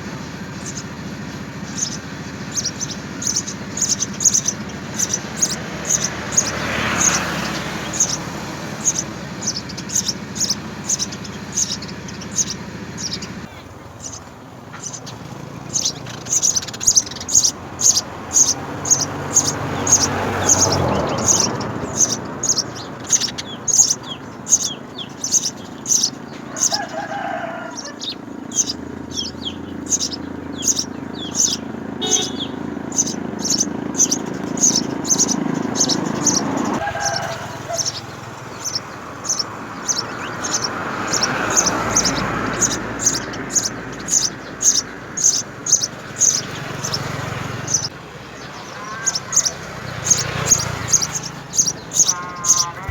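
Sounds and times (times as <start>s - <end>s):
sparrows chirping: 0.0s - 52.9s.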